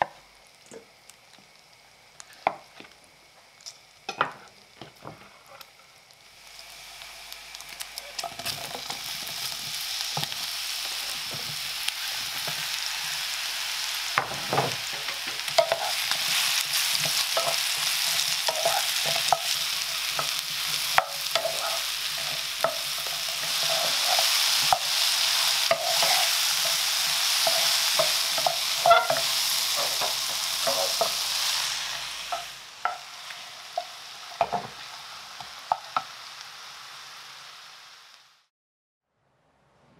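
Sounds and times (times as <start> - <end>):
food sizzling in hot oil: 0.0 - 38.5.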